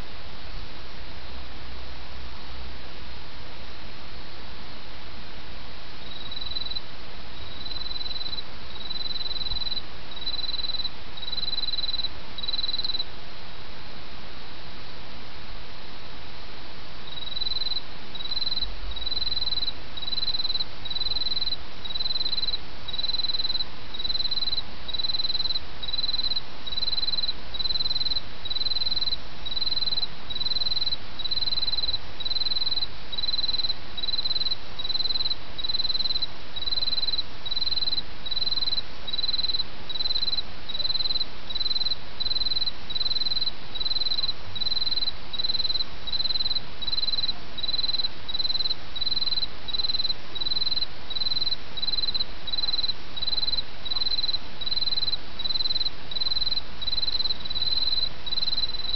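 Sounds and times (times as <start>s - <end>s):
cricket chirping: 6.0s - 13.1s, 17.0s - 58.9s.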